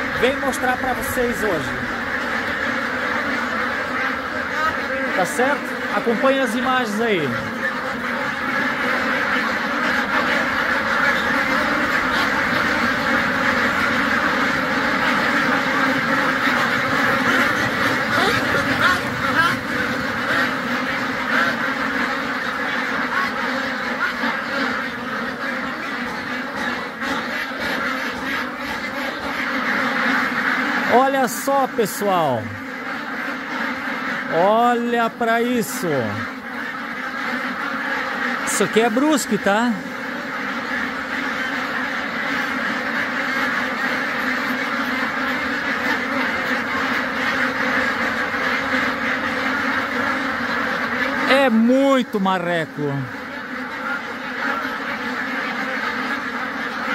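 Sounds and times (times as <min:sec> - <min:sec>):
flock of ducks quacking: 0:00.0 - 0:56.9.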